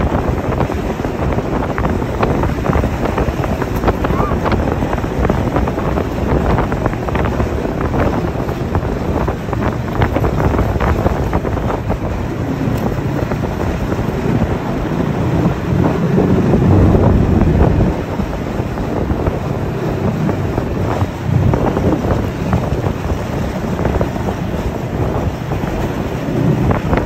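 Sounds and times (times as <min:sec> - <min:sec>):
snowmobile engine running: 0:00.0 - 0:27.0
wind buffeting microphone: 0:00.0 - 0:27.0.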